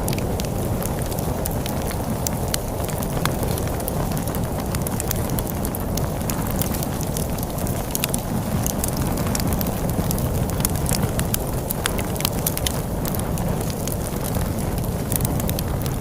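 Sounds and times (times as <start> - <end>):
storm wind rumble: 0.0 - 16.0
wood fire crackling and popping: 0.0 - 16.0.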